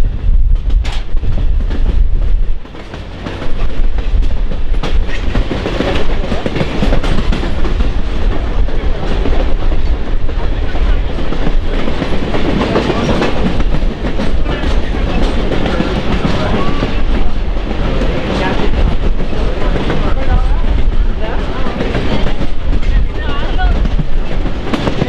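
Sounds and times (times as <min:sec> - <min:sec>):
train wheels clacking on rails: 0:00.1 - 0:25.0.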